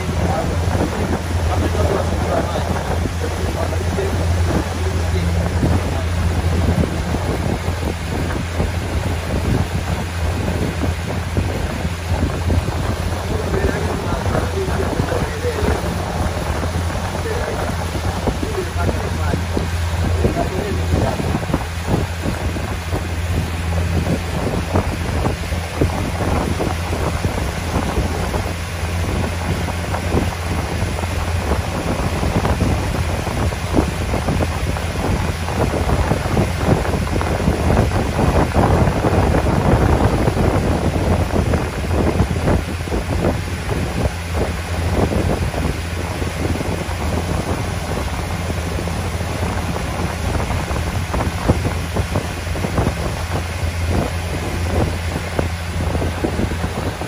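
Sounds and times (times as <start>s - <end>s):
boat engine humming: 0.0s - 57.0s
water rushing past hull: 0.0s - 57.0s
wind buffeting microphone: 0.0s - 57.0s.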